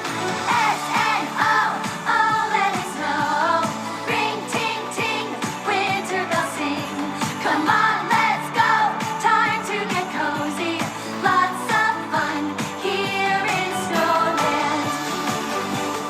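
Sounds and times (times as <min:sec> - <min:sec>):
pop song with singing: 0:00.0 - 0:16.0.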